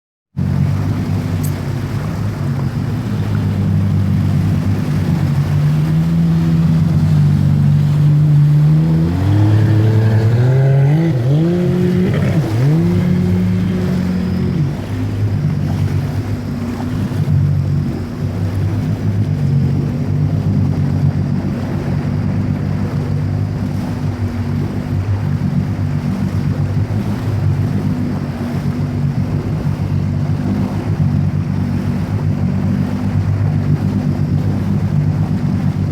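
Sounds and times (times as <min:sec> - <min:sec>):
water noise: 0:00.3 - 0:35.9
jet ski engine revving: 0:00.4 - 0:35.9.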